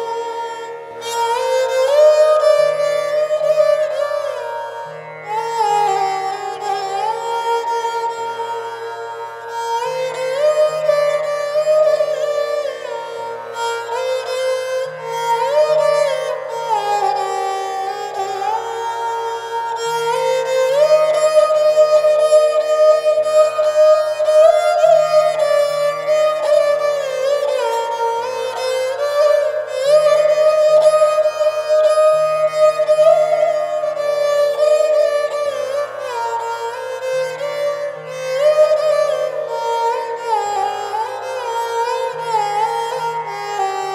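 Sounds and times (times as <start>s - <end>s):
gliding string melody: 0.0s - 43.9s.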